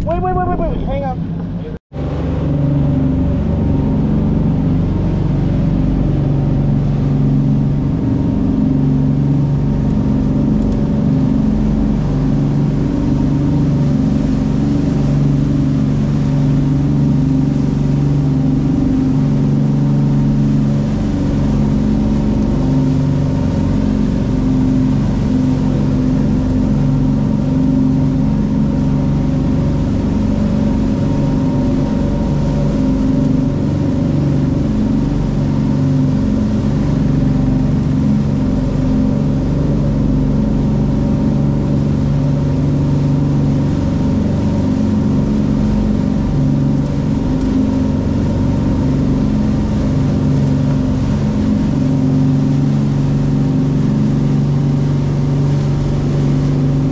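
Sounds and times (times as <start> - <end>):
boat engine humming: 0.0 - 56.9.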